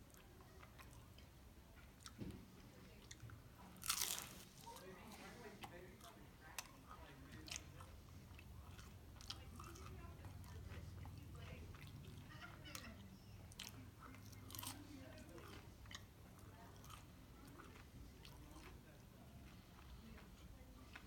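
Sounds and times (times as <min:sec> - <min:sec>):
close-up chewing with crunches: 0:00.0 - 0:21.0.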